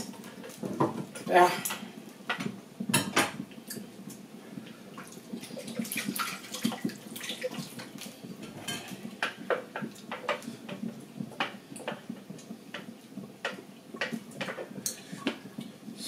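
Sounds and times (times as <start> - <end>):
stew bubbling and spitting in pot: 0.0 - 16.0.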